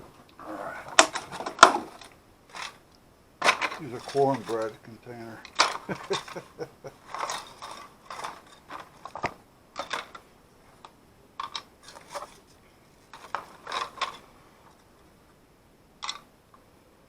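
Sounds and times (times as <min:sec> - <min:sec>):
small plastic parts clattering: 0:00.8 - 0:15.0, 0:16.0 - 0:16.3.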